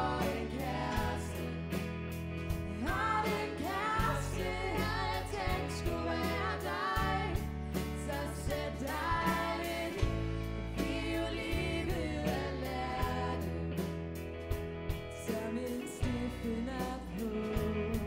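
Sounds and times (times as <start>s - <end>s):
person singing: 0.0s - 1.8s, 2.8s - 7.4s, 8.0s - 13.6s, 15.2s - 18.0s
drum kit: 0.0s - 18.0s
electric bass: 0.0s - 18.0s
keyboard: 0.0s - 18.0s.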